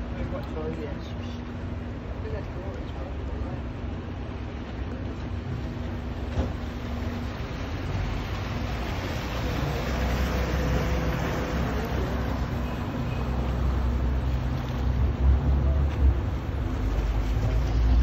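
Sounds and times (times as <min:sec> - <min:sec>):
motorboat engine rumbling: 0:00.0 - 0:18.0
water washing along hull: 0:00.0 - 0:18.0.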